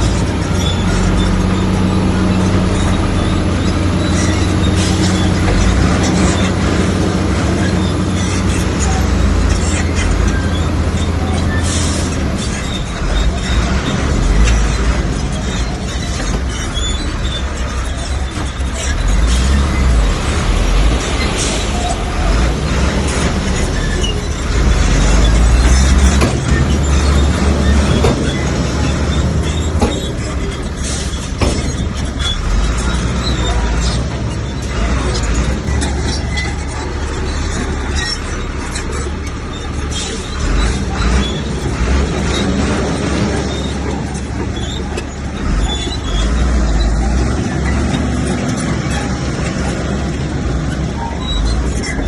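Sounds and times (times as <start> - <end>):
bulldozer diesel engine rumbling: 0.0 - 52.0
metallic squeaks of steel tracks: 0.0 - 52.0.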